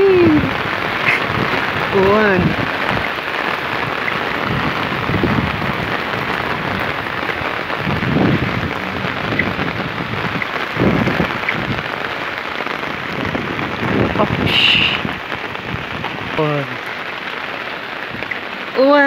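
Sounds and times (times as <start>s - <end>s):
heavy rain on street and cars: 0.0s - 19.0s
low rumbles: 0.0s - 19.0s.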